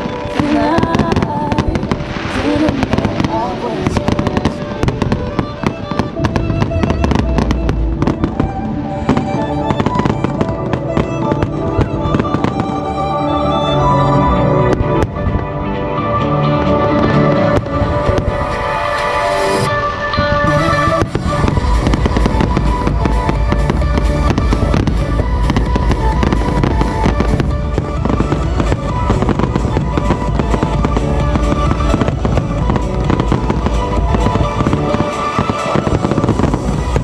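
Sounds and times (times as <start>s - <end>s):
fireworks bursting and crackling: 0.0s - 37.0s
music with steady bass: 5.0s - 37.0s.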